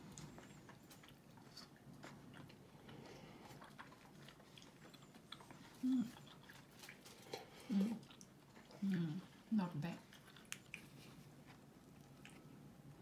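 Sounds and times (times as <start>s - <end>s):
faint chewing sounds: 0.0s - 13.0s.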